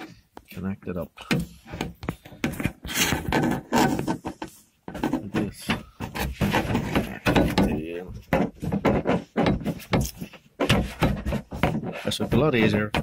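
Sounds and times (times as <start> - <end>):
lock parts clicking and scraping: 1.2 - 13.0.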